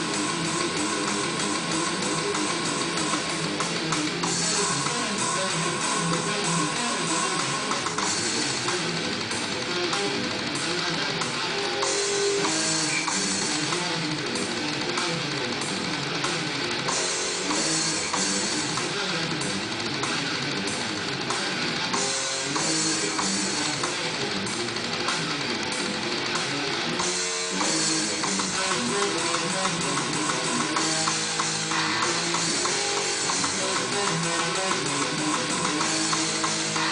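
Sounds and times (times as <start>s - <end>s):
drum kit playing a steady beat: 0.0s - 36.9s
guitar: 0.0s - 36.9s.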